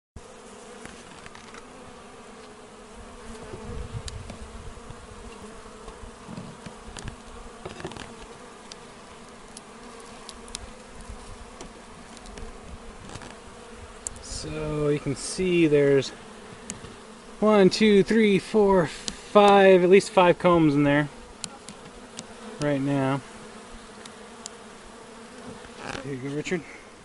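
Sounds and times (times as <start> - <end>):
bees buzzing: 0.2 - 27.0.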